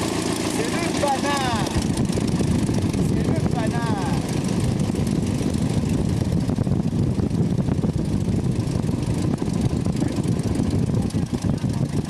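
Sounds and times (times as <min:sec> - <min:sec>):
biplane engine and propeller rumble: 0:00.0 - 0:12.0.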